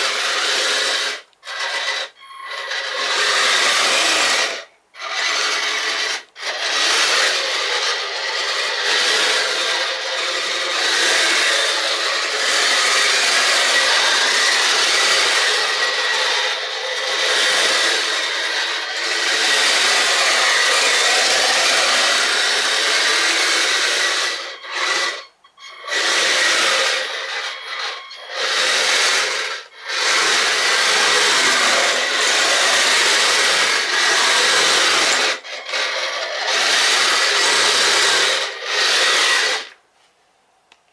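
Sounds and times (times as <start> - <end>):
tracks grinding and rasping: 0.0 - 39.8.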